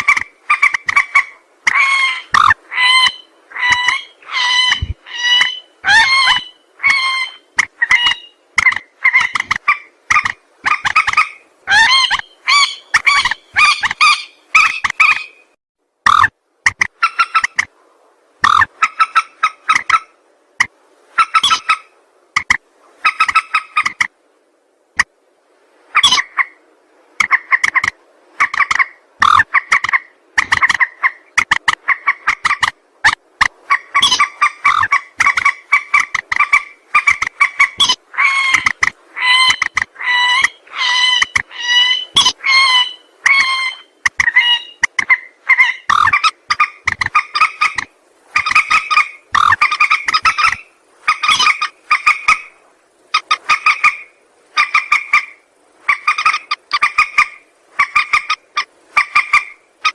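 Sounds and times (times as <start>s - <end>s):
rail bird calling harshly: 0.0s - 15.4s, 27.2s - 59.9s.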